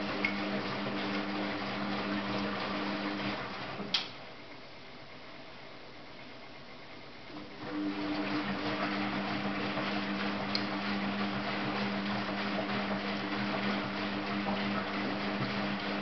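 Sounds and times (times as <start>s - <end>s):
washing machine drum humming: 0.0s - 4.3s, 7.2s - 16.0s.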